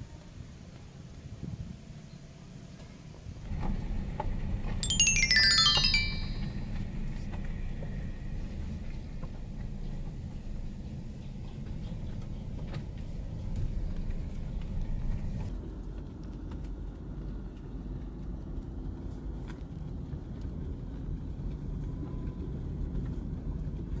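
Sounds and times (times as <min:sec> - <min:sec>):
car engine and tyre rumble: 0:00.2 - 0:04.8, 0:07.2 - 0:24.0.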